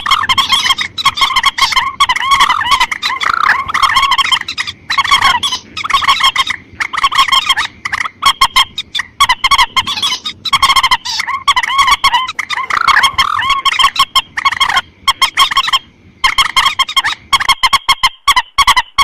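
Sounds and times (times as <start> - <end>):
rail bird calling: 0.0 - 19.0.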